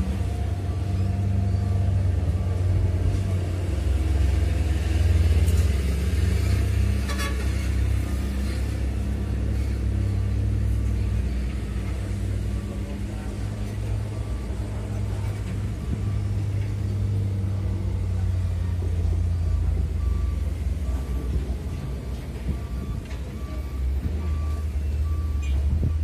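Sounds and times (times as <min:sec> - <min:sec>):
heavy machinery engine rumble: 0:00.0 - 0:26.0.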